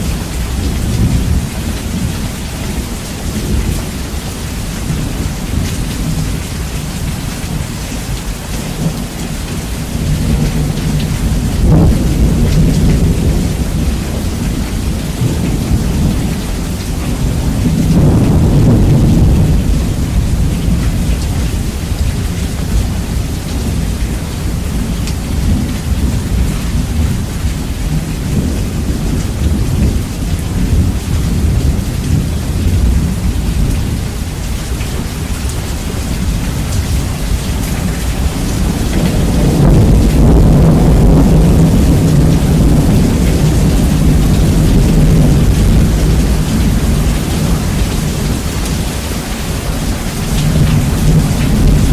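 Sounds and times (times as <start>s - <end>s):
heavy rain: 0.0s - 51.9s
thunder rumbling: 0.0s - 51.9s.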